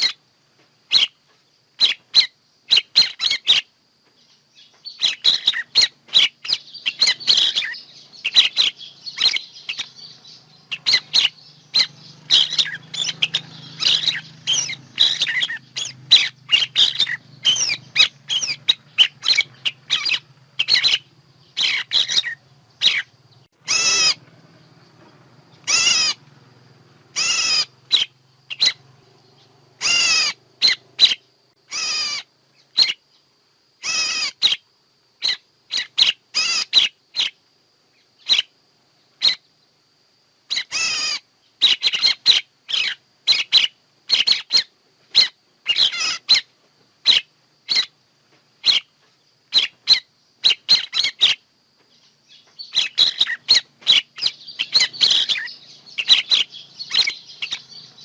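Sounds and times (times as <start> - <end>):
bird calling: 0.0 - 0.2, 0.9 - 33.2, 33.8 - 37.4, 38.0 - 39.5, 40.5 - 48.0, 48.6 - 58.0.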